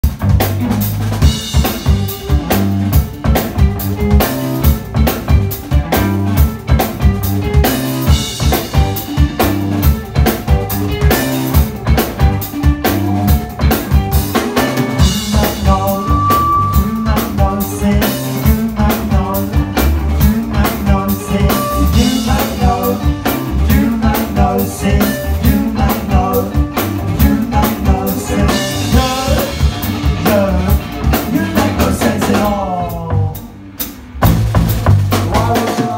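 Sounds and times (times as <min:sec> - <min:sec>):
drum kit fast beat: 0:00.0 - 0:35.9
electric guitars: 0:00.0 - 0:35.9.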